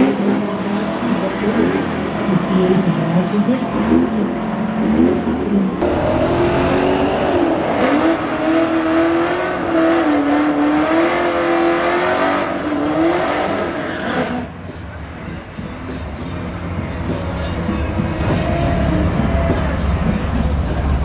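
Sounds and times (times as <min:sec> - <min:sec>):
loud car engines rumbling: 0:00.0 - 0:21.0.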